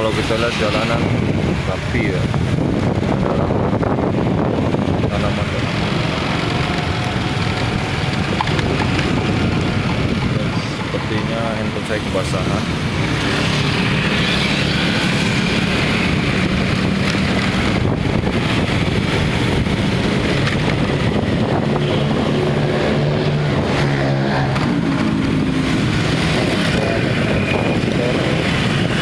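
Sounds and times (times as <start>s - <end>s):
cars and motorbikes passing: 0.0s - 29.0s
tyres on wet road: 0.0s - 29.0s
wind buffeting microphone: 0.0s - 29.0s.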